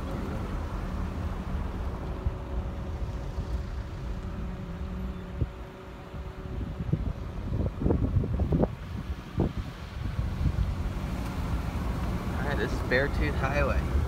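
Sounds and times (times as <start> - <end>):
car driving rumble: 0.0 - 14.0
wind buffeting microphone: 0.0 - 14.0.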